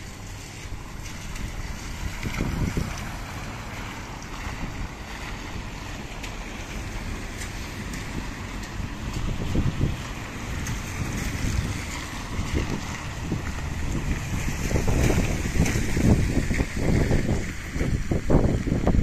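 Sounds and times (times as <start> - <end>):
rain on wet street: 0.0 - 19.0
wind buffeting microphone: 0.0 - 19.0.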